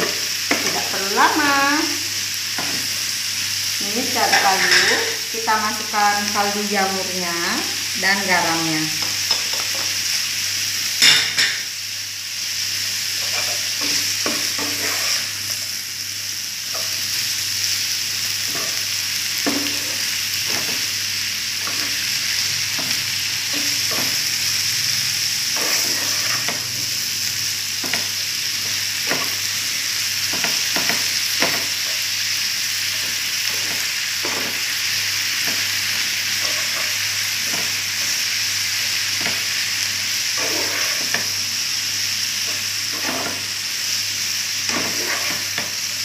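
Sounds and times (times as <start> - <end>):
cabbage sizzling in a pan: 0.0 - 46.0.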